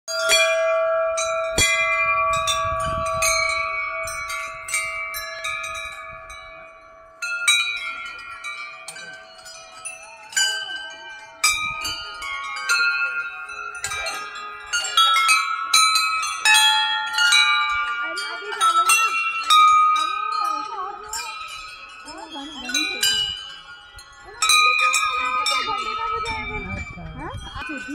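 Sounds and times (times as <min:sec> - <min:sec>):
temple bells ringing: 0:00.1 - 0:27.9.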